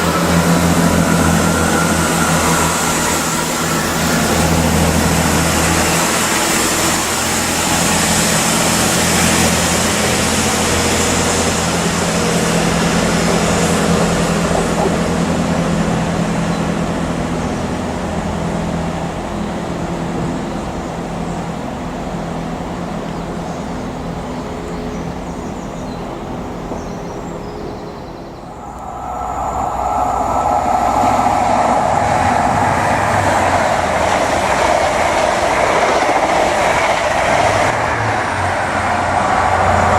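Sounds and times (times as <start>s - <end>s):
train passing on rails: 0.0s - 39.9s.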